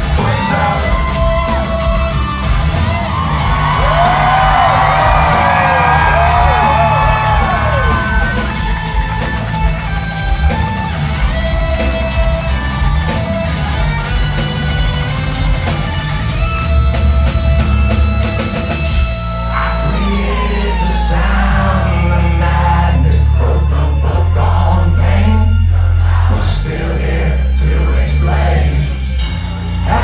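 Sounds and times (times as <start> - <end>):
electric guitar bending notes: 0.0 - 26.2
hard rock band playing: 0.0 - 30.0.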